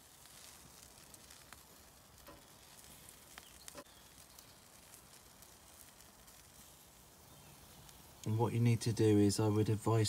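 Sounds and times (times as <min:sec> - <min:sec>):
meat sizzling over charcoal: 0:00.0 - 0:10.0.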